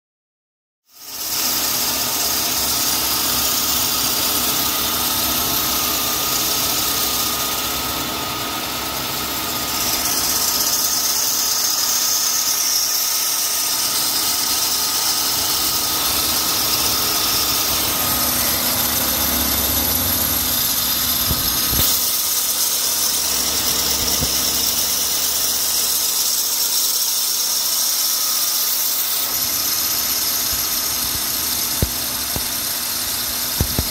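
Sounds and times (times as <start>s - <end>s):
high-pitched belt squeal: 0.9s - 33.9s.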